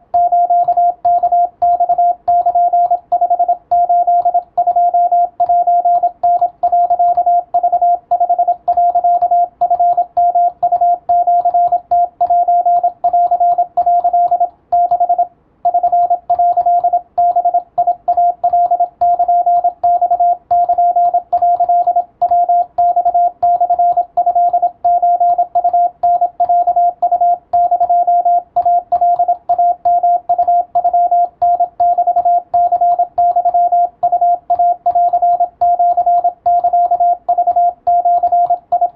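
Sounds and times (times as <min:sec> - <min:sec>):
morse code tone: 0:00.0 - 0:38.9.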